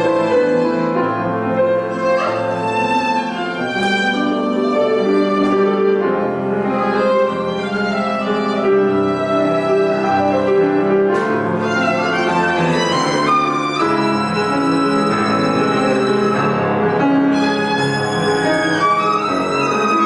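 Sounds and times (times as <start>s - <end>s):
violin playing slow melody: 0.0s - 20.0s.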